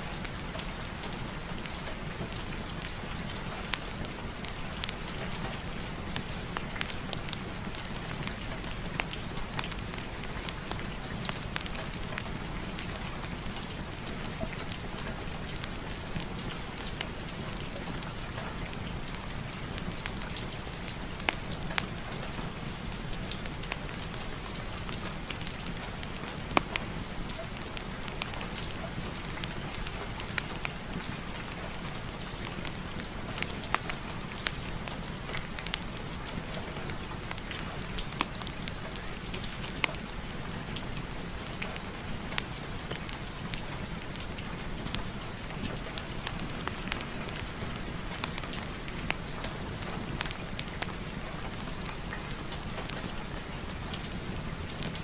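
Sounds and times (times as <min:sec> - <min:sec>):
rain falling: 0:00.0 - 0:55.0
wood fire crackling: 0:00.1 - 0:55.0.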